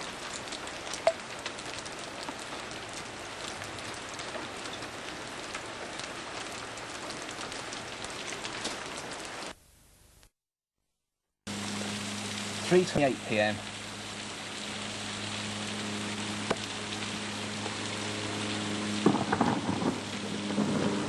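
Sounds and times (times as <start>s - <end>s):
heavy rain falling: 0.0s - 9.6s, 11.5s - 21.0s.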